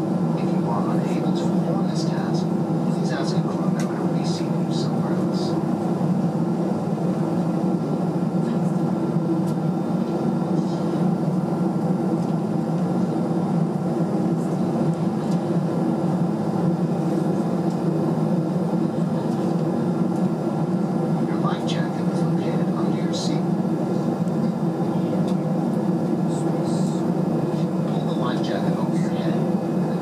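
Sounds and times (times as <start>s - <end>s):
aircraft cabin ventilation hum: 0.0s - 30.0s.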